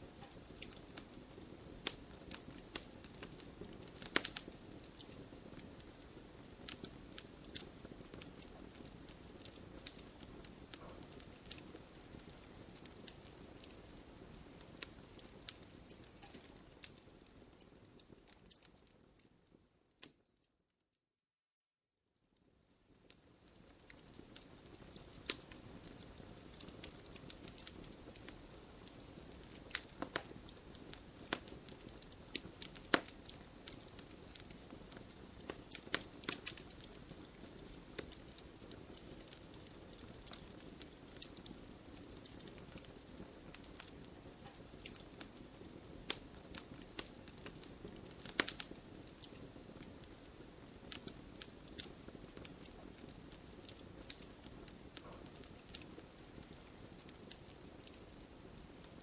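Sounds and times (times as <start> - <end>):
wood fire crackling and popping: 0.0 - 20.3, 22.4 - 59.0.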